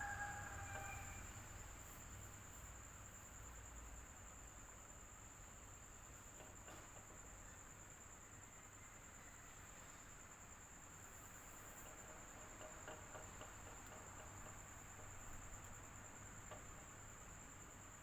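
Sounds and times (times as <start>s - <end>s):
cricket trill: 0.0s - 18.0s
faint fan noise: 0.0s - 18.0s.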